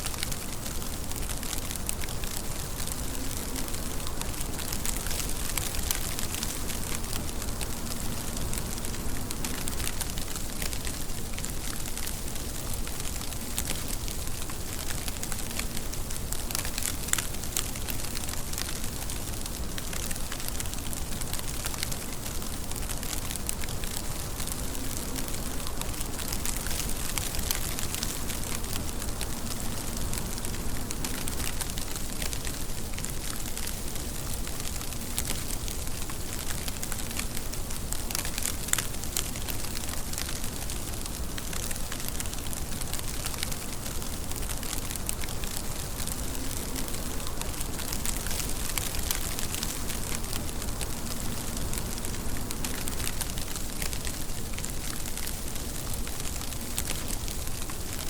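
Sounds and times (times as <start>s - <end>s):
raindrops striking a surface: 0.0s - 58.0s
steady rain hiss: 0.0s - 58.0s.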